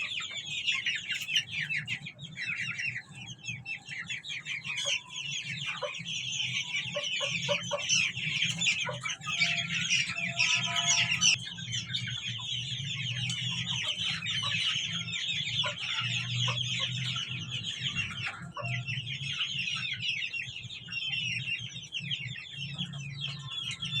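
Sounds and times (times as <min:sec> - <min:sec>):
chickens clucking: 0:00.0 - 0:24.0
chickens peeping: 0:00.0 - 0:24.0.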